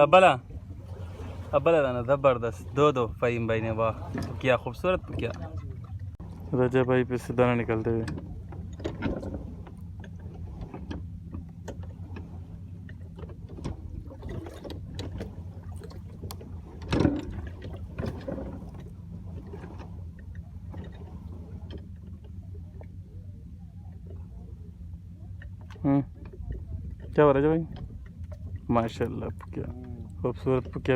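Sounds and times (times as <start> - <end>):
boat engine humming: 0.0 - 30.9.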